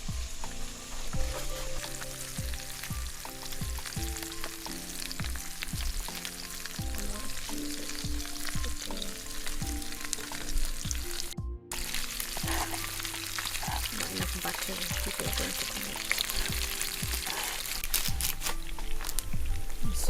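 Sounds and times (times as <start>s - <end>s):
crackling hiss: 0.0s - 20.0s
lo-fi music with steady beat: 0.0s - 20.0s.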